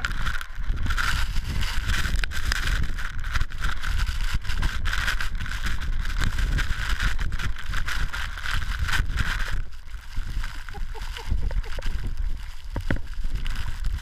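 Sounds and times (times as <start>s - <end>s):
gusting rumble buffeting microphone: 0.0s - 14.0s.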